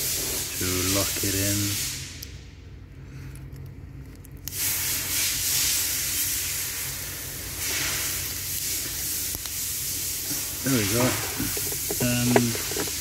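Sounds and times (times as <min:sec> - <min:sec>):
steady hiss: 0:00.0 - 0:02.3, 0:04.4 - 0:13.0.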